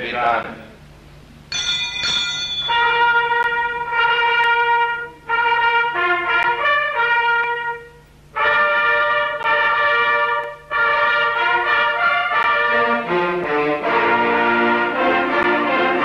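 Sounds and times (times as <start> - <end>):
trumpets playing solemn melody: 2.6 - 16.0.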